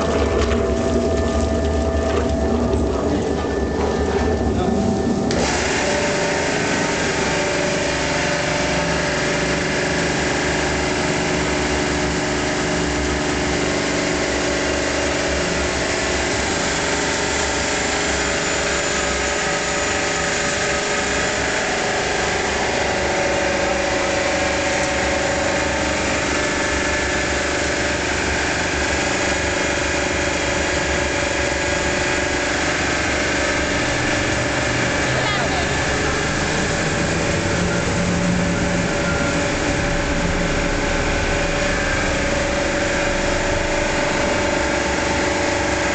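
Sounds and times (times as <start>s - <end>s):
homogenizing machine humming: 0.0s - 45.9s.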